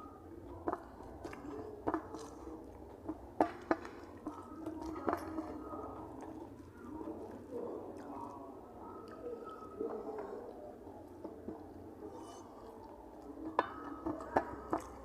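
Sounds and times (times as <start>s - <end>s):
person chewing food: 0.4s - 8.5s, 9.1s - 15.0s.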